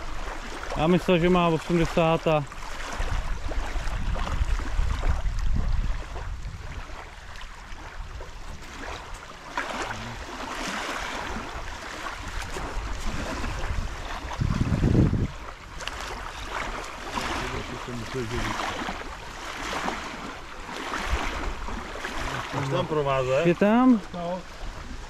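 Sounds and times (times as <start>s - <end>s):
water splashing and lapping: 0.0s - 25.0s
wind rumbling on microphone: 0.0s - 25.0s.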